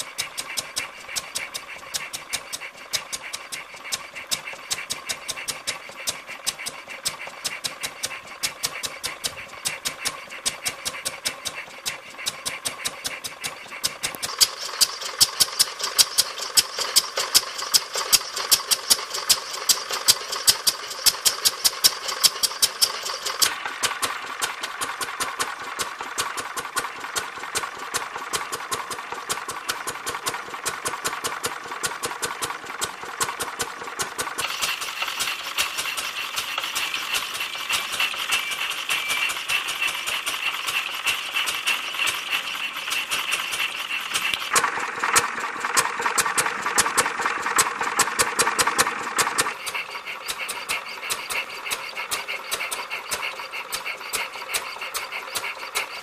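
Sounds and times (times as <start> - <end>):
sharp exhaust pops: 0.0 - 56.0
stationary engine running: 0.0 - 56.0.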